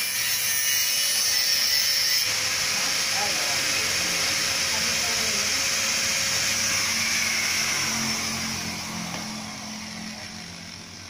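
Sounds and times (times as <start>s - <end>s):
angle grinder whining: 0.0s - 11.0s.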